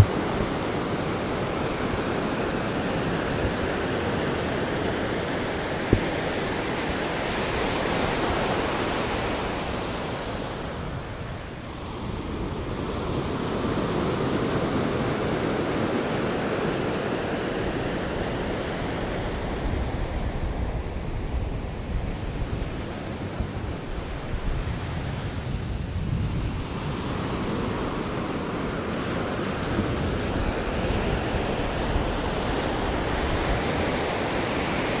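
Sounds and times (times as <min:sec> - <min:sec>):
ocean surf washing onto beach: 0:00.0 - 0:35.0.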